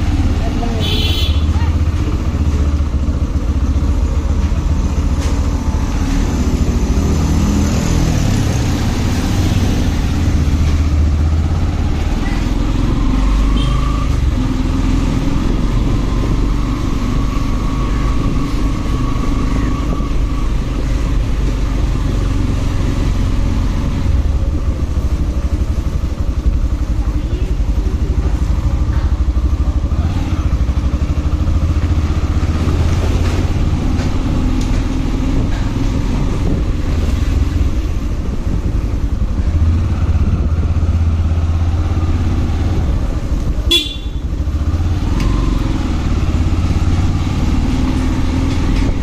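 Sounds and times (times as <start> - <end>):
motorcycle engine running: 0.0 - 7.7, 9.7 - 49.0
road and wind noise: 0.0 - 49.0.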